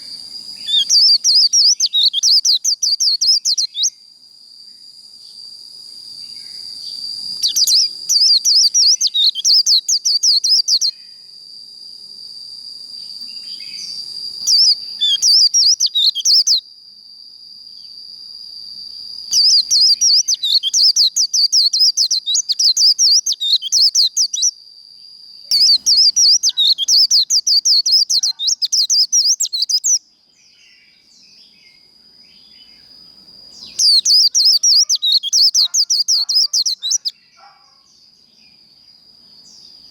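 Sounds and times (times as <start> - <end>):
bird twittering song: 0.0 - 4.0, 6.2 - 11.2, 13.0 - 16.6, 19.3 - 24.6, 25.5 - 39.9.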